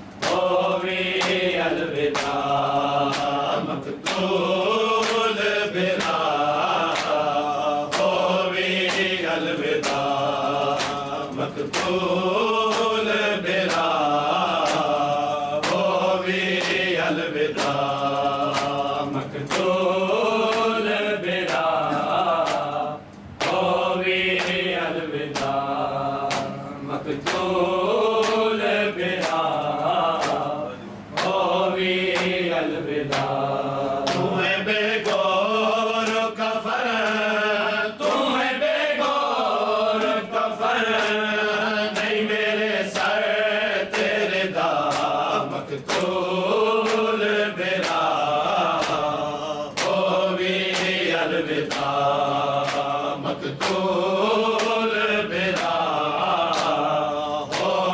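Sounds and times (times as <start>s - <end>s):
men chanting in unison: 0.1s - 57.9s.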